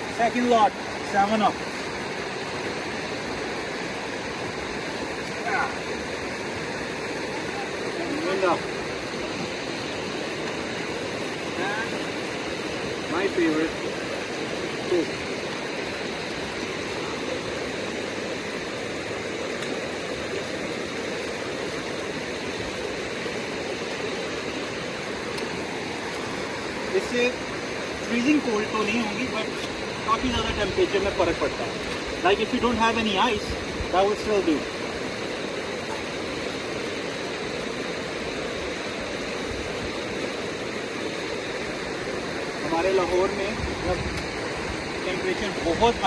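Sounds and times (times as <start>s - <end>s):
stream flowing over rocks: 0.0s - 46.0s.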